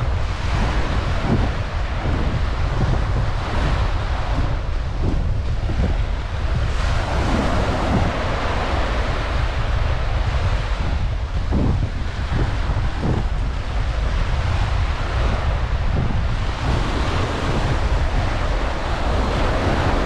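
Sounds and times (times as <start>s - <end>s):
surf washing onto beach: 0.0s - 20.0s
wind rumbling on microphone: 0.0s - 20.0s.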